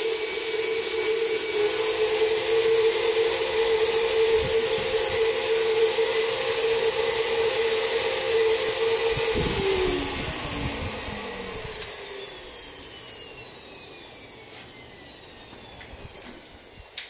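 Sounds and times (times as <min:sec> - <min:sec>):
hiss: 0:00.0 - 0:17.0
motor whine spinning down: 0:00.0 - 0:17.0.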